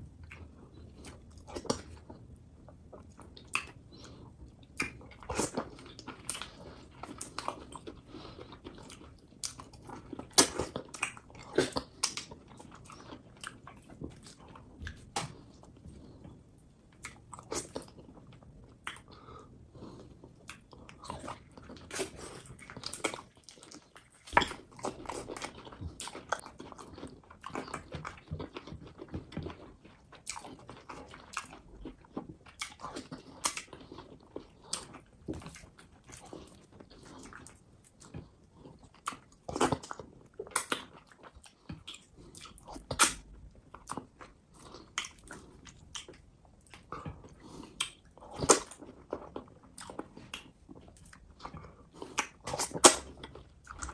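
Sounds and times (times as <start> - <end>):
mouth smacking and chewing: 0.2 - 53.9.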